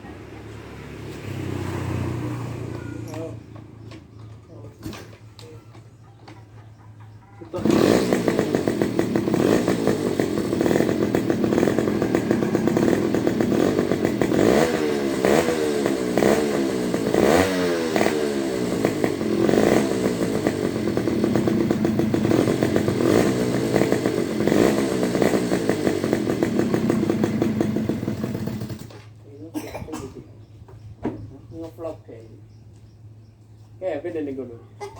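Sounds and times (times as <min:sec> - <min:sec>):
motorcycle engine idling and revving: 0:00.0 - 0:33.3.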